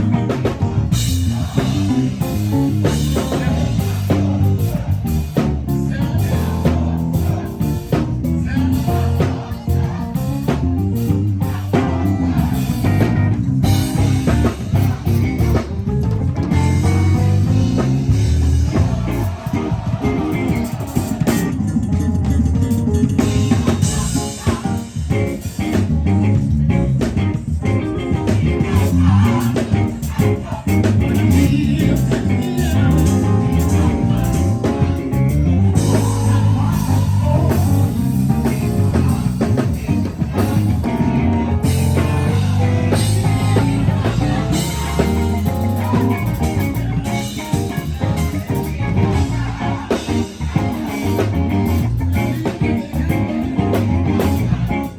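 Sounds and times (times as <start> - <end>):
drum kit hits: 0.0 - 53.2
guitar: 0.0 - 54.9
heavy bass line: 0.0 - 54.9.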